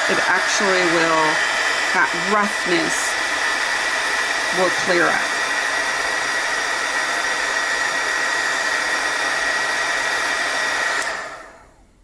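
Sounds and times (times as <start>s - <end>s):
heat gun blowing with high whine: 0.0s - 11.8s.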